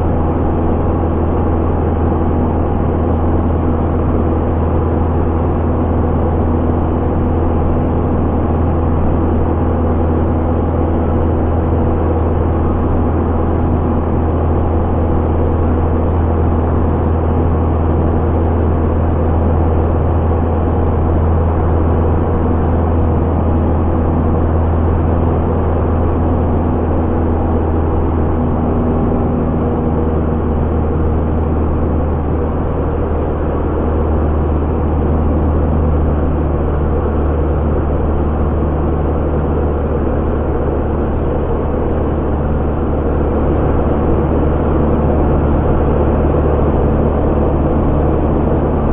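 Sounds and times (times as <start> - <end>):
light aircraft engine droning: 0.0 - 48.9.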